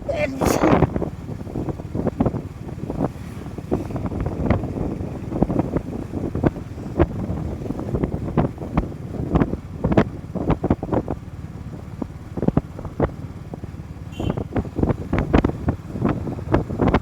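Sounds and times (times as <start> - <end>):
wind buffeting microphone: 0.0 - 13.8, 14.4 - 17.0
motorcycle engine and road rumble: 0.0 - 17.0.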